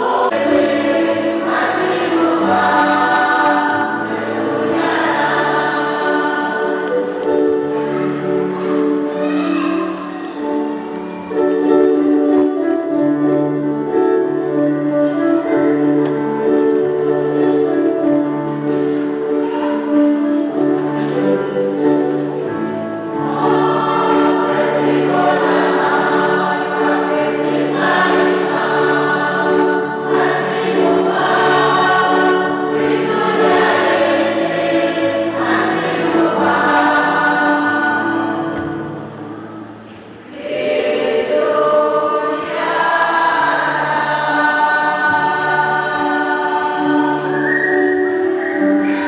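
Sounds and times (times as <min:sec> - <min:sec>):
choir singing a hymn: 0:00.0 - 0:09.1, 0:09.8 - 0:49.0.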